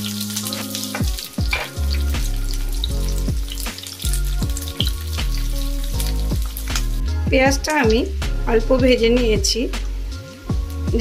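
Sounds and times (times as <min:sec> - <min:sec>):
background music low notes: 0:00.0 - 0:11.0
onions sizzling in oil: 0:00.0 - 0:11.0.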